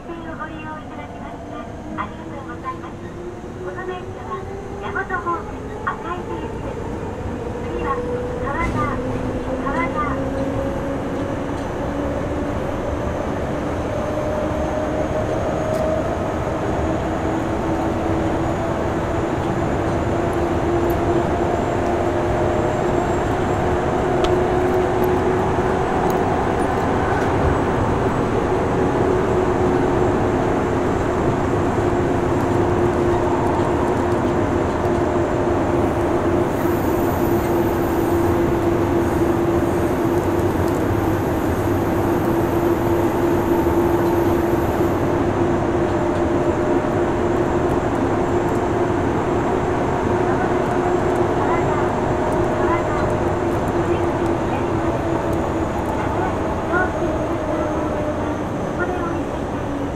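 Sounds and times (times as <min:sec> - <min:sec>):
train motor hum: 0:01.9 - 0:59.9
wheel and rail running noise: 0:04.4 - 0:59.9.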